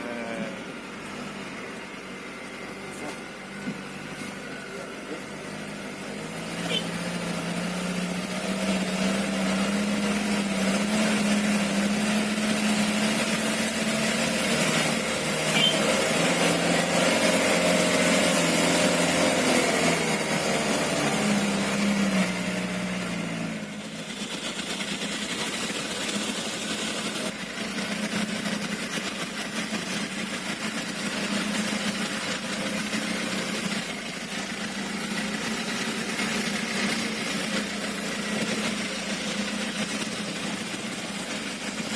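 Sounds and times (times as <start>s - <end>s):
truck diesel engine under load: 0.0s - 41.9s.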